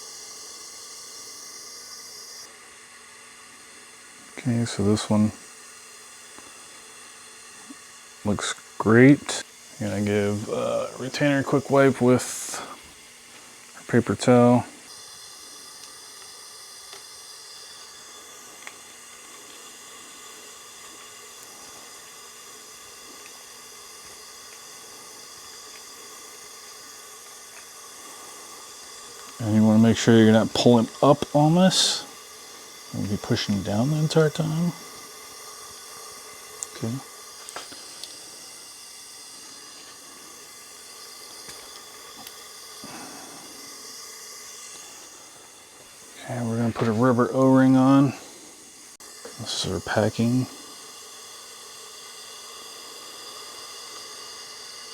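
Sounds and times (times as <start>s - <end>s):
steady hiss: 0.0s - 54.9s.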